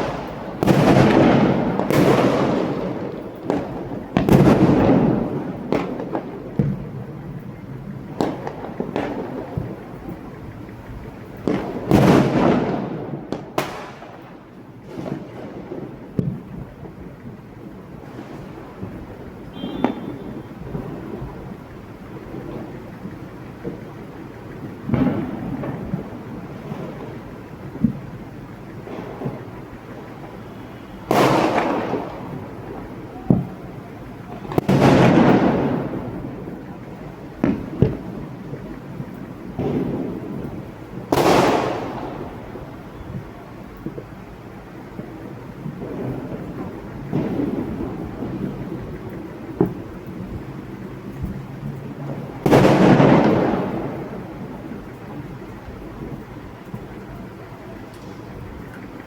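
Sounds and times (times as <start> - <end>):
crackling firework burst: 0.0 - 59.0
fireworks banging: 0.0 - 59.0.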